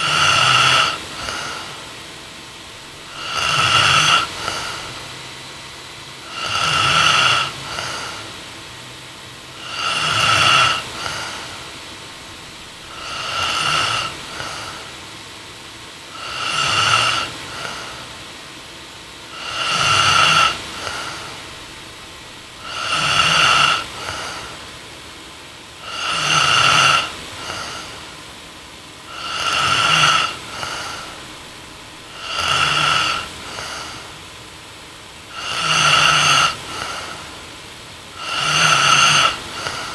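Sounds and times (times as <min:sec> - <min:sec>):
woman snoring: 0:00.0 - 0:01.8, 0:02.7 - 0:05.1, 0:06.2 - 0:08.4, 0:09.5 - 0:15.1, 0:16.1 - 0:18.2, 0:19.2 - 0:24.8, 0:25.7 - 0:28.2, 0:29.1 - 0:34.4, 0:35.2 - 0:39.9.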